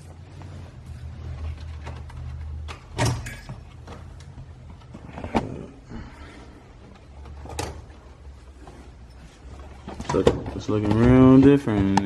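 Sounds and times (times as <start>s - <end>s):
handling noise: 0.0s - 12.0s.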